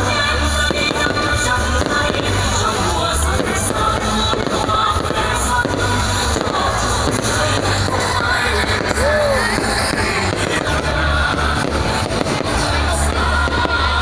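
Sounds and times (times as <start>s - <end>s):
fireworks popping and crackling: 0.0s - 14.0s
loud music with pulsing bass: 0.0s - 14.0s.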